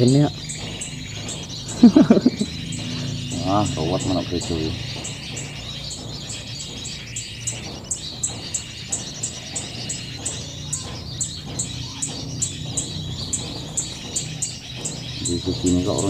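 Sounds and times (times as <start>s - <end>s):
small birds chirping: 0.0s - 16.0s
soft bird twittering: 0.0s - 16.0s.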